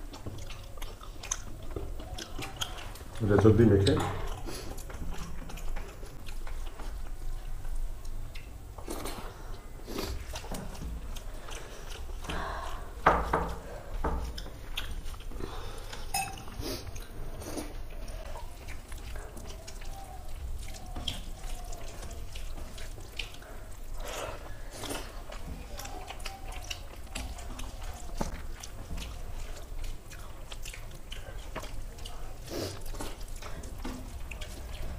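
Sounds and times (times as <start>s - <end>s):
fingers mashing wet food: 0.0s - 9.4s, 10.0s - 34.9s
chewing and lip-smacking: 0.0s - 34.9s.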